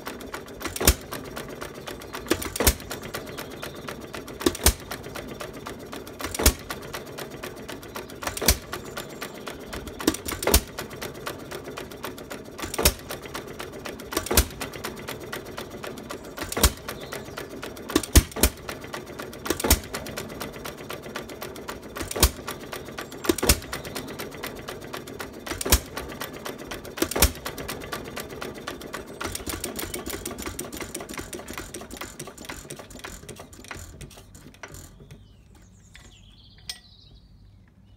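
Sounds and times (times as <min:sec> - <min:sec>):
valve gear clatter: 0:00.0 - 0:20.6, 0:21.3 - 0:24.1, 0:25.2 - 0:36.8.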